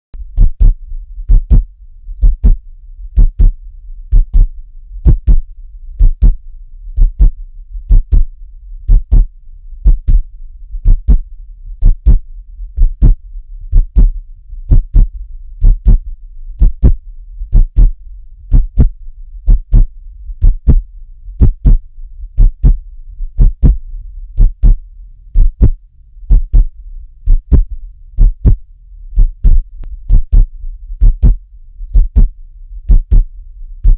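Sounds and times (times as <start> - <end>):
low hum: 0.2 - 33.9
heartbeat thumps: 0.3 - 6.4, 7.0 - 33.9.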